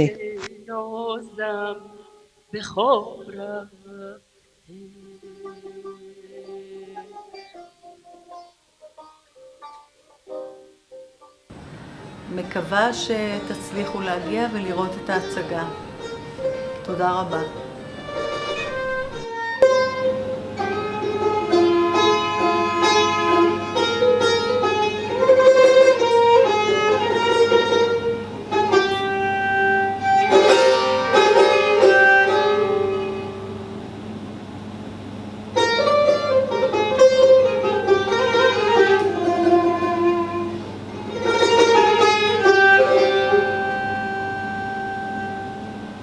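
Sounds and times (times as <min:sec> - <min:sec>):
bowed string melody: 0:04.7 - 0:11.4, 0:12.2 - 0:33.8, 0:35.5 - 0:46.0
plucked lute notes: 0:04.7 - 0:33.8, 0:35.5 - 0:46.0.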